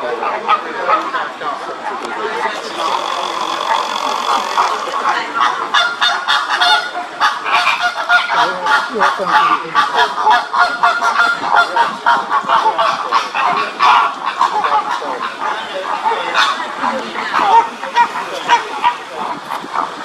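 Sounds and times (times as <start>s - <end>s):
flock of water birds calling: 0.0s - 20.0s.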